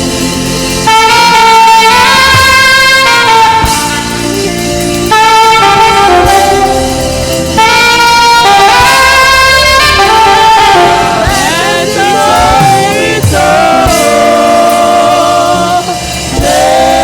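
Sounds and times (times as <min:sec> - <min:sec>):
saxophone melody: 0:00.0 - 0:16.8
backing track with steady beat: 0:00.0 - 0:17.0.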